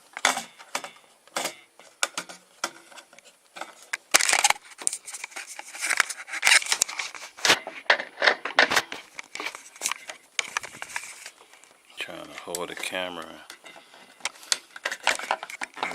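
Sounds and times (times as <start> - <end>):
plastic clicking and scraping: 0.1 - 15.9.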